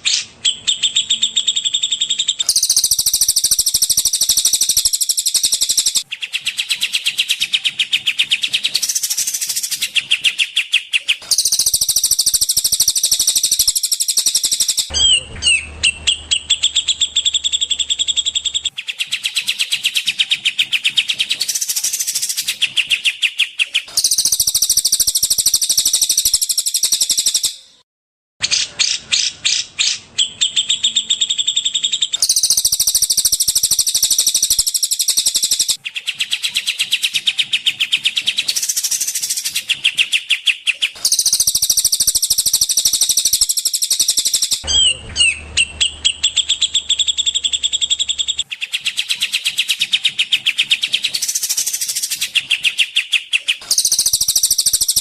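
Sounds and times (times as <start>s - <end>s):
songbird trills and chattering: 0.0s - 27.6s, 28.6s - 55.0s.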